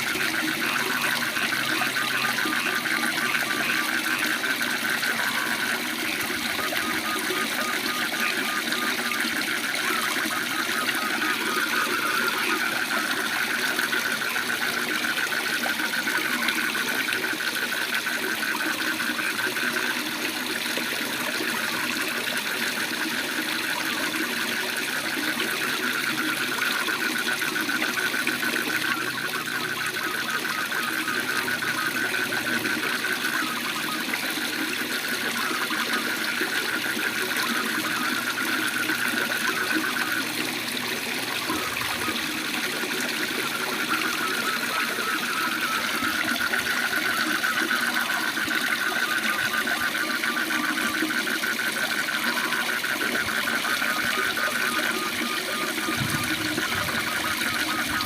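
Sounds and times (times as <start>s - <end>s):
frogs calling in a trill: 0.0s - 58.0s.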